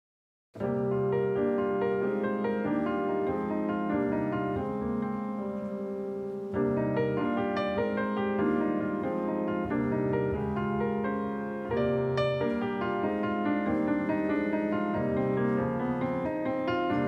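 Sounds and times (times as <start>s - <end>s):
slow jazz piano chords: 0.6s - 17.0s.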